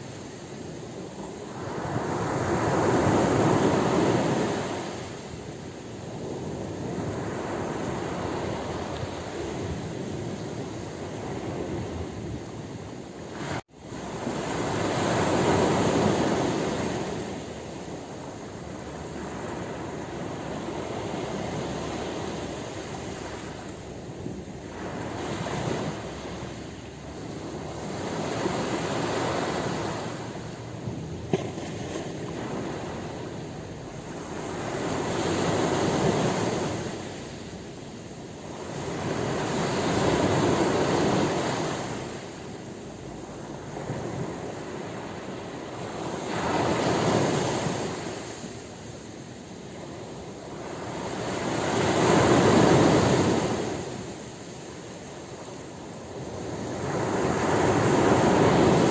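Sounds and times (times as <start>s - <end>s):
ocean waves washing ashore: 0.0s - 58.9s.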